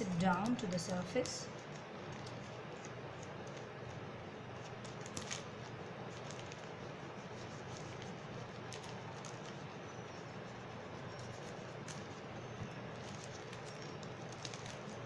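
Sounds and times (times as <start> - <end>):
low background hum: 0.0 - 15.0
paper rustling and rubbing: 0.0 - 15.0.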